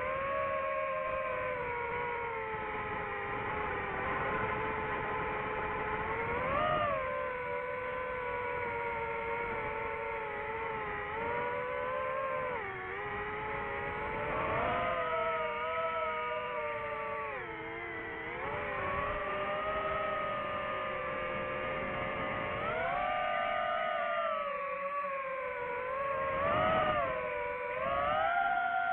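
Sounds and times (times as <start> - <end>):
drone motors whining: 0.0 - 28.9.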